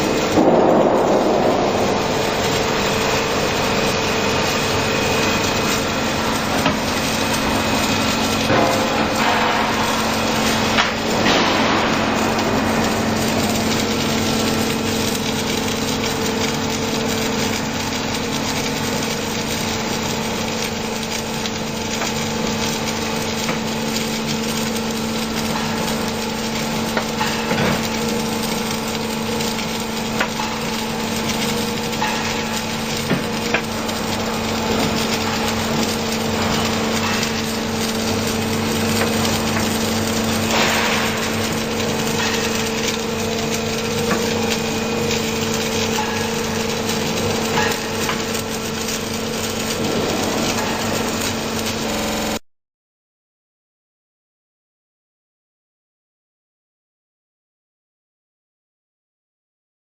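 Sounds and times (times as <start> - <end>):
welding machine running: 0.0 - 52.4.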